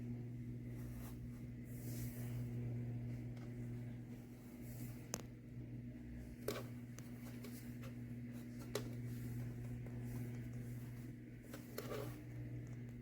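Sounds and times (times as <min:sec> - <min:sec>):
space heater fan hum: 0:00.0 - 0:13.0.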